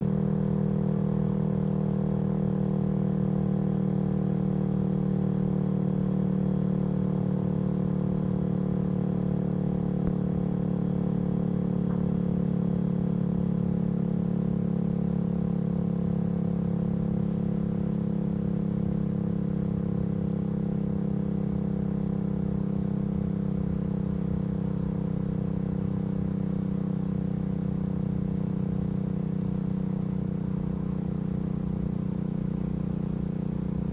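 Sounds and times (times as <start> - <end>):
low mechanical drone: 0.0 - 33.9.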